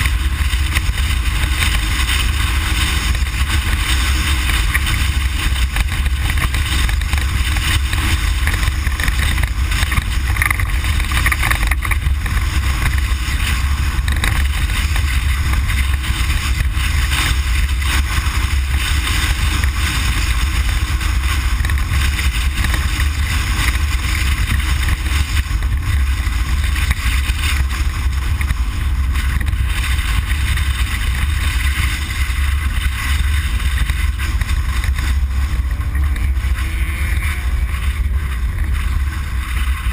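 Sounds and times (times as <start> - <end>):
engine and tyres drone: 0.0 - 39.9.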